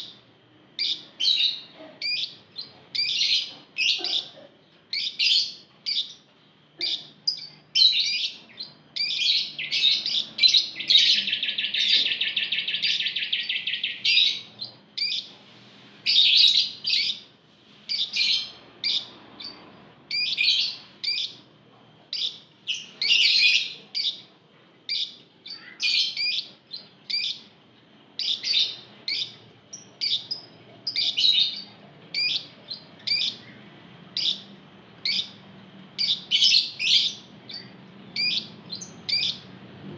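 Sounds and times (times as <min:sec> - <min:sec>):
lovebirds chirping: 0:00.0 - 0:39.6.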